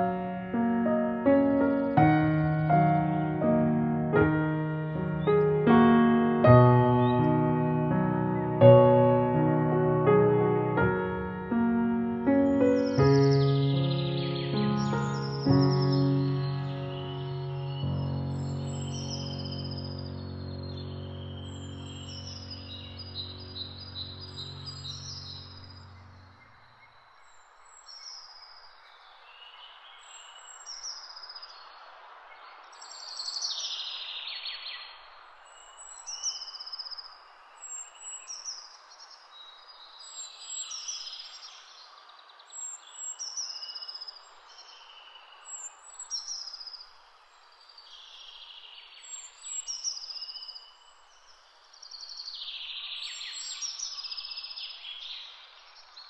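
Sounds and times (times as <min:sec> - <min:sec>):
songbirds chirping: 0:00.0 - 0:56.0
steady background hiss: 0:00.0 - 0:56.0.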